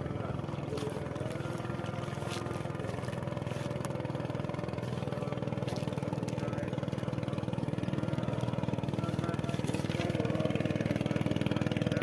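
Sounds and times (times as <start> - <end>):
small engine puttering: 0.0 - 12.0.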